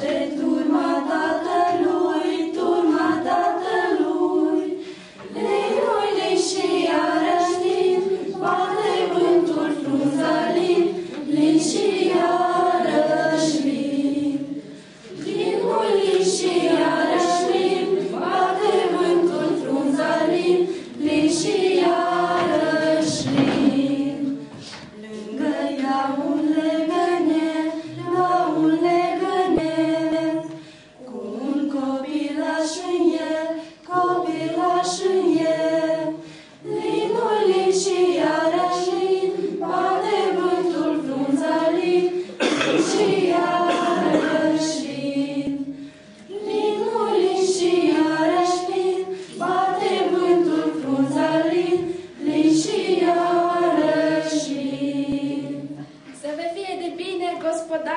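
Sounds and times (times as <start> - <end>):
women singing a carol unaccompanied: 0.0 - 57.9.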